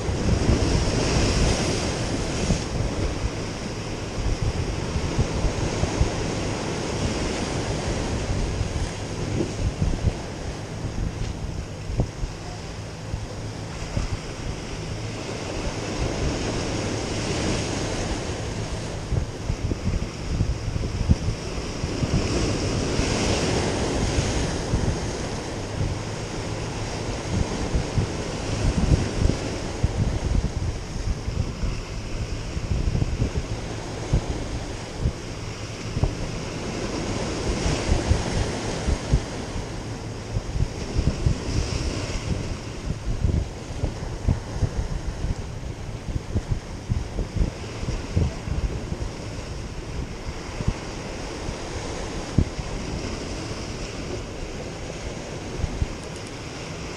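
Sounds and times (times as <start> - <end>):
waves breaking against rocks: 0.0 - 56.9
wind buffeting microphone: 0.0 - 56.9.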